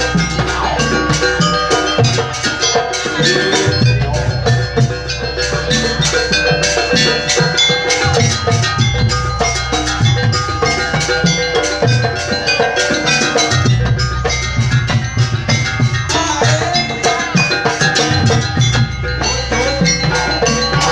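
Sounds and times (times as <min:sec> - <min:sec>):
drums: 0:00.0 - 0:20.9
held pitched notes: 0:00.0 - 0:20.9
struck metal percussion ringing: 0:00.0 - 0:20.9.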